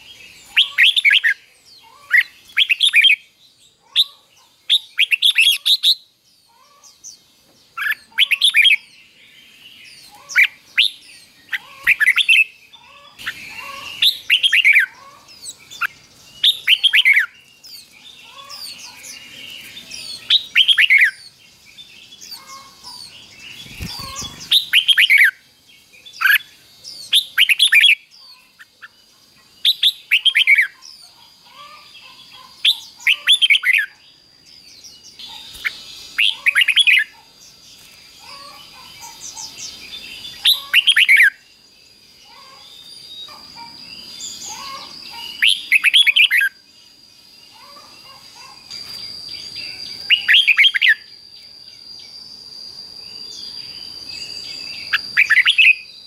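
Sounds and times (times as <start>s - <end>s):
soft chattering bird calls: 0.0s - 34.1s, 34.7s - 51.0s
bird singing whistled notes: 0.0s - 56.0s.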